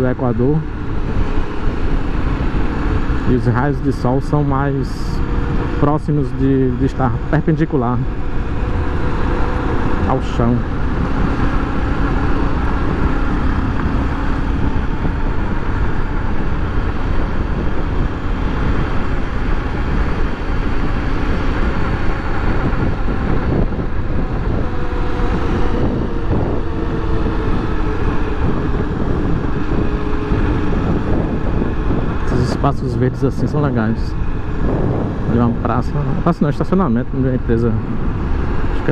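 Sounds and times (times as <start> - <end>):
motorcycle engine running: 0.0 - 38.9
wind rush over microphone: 0.0 - 38.9.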